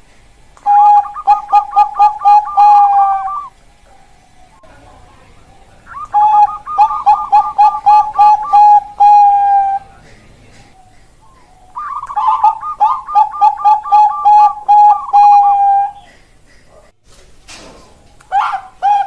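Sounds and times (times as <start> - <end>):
dove cooing: 0.6 - 16.9, 18.2 - 19.0.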